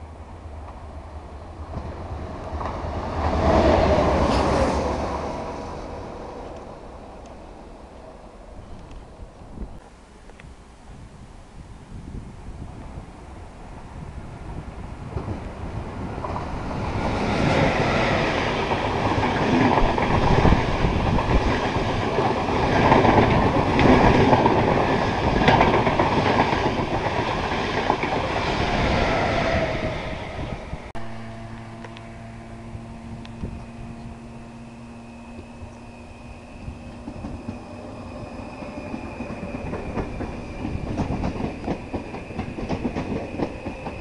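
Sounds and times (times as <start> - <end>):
electric train hum: 0.0 - 44.0
train passing at speed: 0.0 - 44.0.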